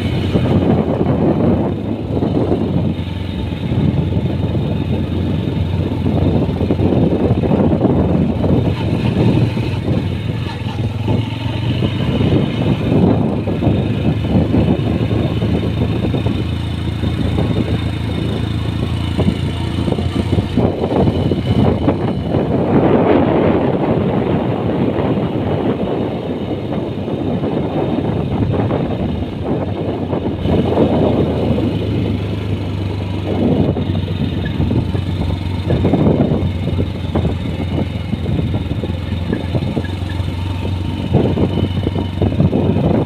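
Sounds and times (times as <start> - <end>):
motorcycle engine running: 0.0 - 43.0
wind rushing over microphone: 0.0 - 43.0.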